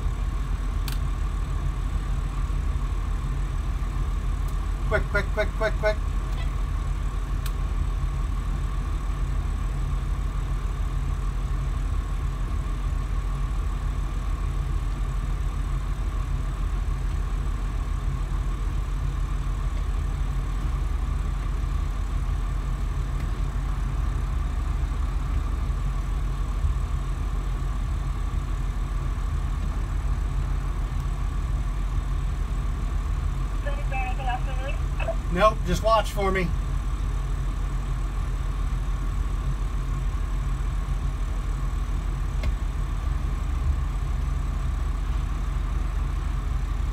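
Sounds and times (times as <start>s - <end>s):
diesel engines idling: 0.0s - 46.9s.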